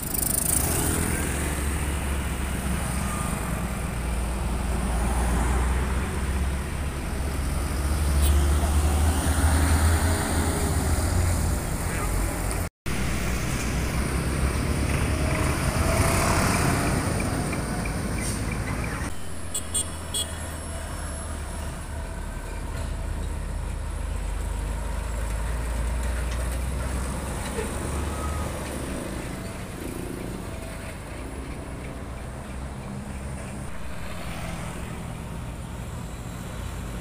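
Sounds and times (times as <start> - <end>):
traffic road noise: 0.0 - 37.0.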